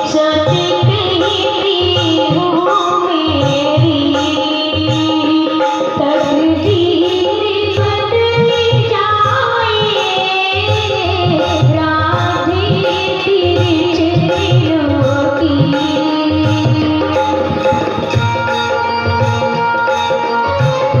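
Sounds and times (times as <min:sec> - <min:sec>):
tabla beat: 0:00.0 - 0:21.0.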